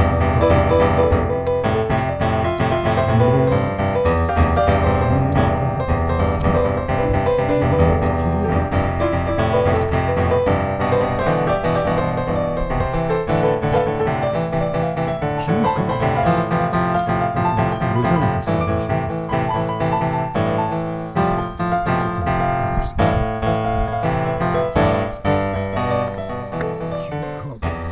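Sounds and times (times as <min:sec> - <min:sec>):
piano music: 0:00.0 - 0:27.9.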